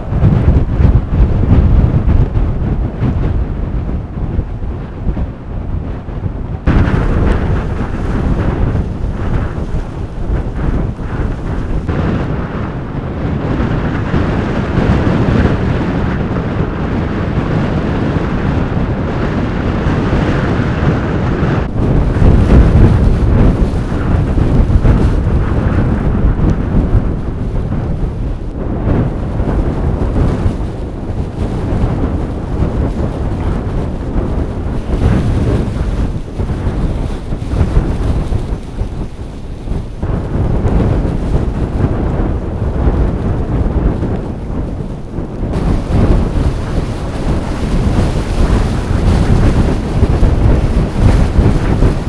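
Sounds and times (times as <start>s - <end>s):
blizzard wind buffeting microphone: 0.0s - 52.0s.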